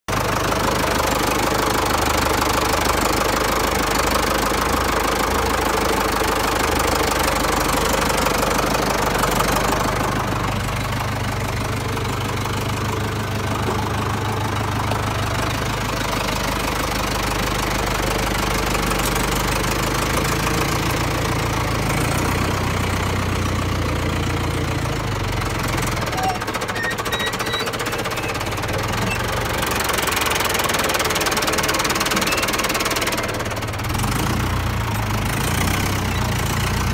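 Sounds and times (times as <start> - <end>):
tractor diesel engine running: 0.1 - 36.9.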